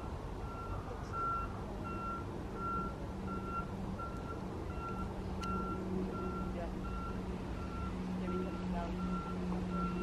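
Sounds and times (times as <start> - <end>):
reversing alarm beeping: 0.0 - 10.0.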